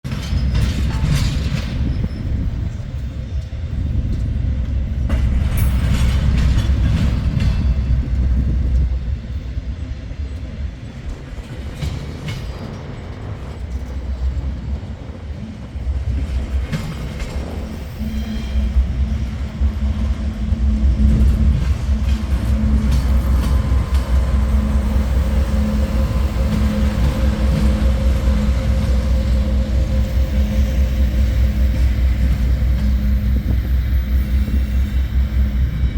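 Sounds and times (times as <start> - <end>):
diesel locomotive rumbling: 0.0 - 35.9.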